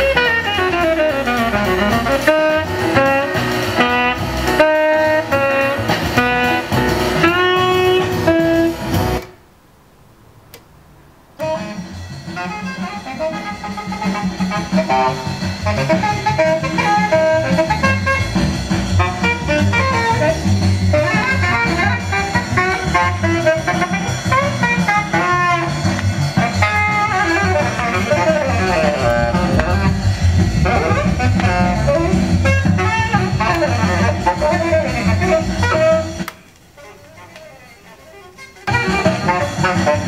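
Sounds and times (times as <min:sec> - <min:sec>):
bass line: 0:00.0 - 0:09.2, 0:11.4 - 0:36.4, 0:38.7 - 0:40.0
saxophone melody: 0:00.0 - 0:09.4, 0:11.4 - 0:40.0.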